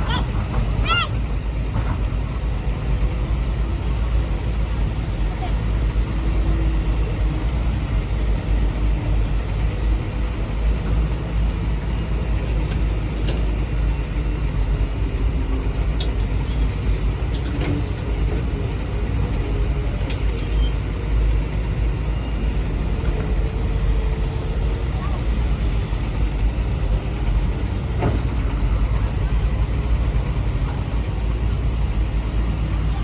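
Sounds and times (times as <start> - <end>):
construction machinery rumbling: 0.0 - 33.0.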